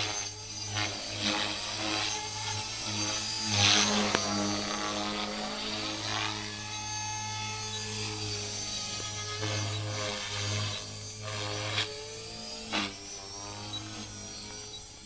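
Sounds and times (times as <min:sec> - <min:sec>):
rc helicopter motor whine: 0:00.0 - 0:15.0.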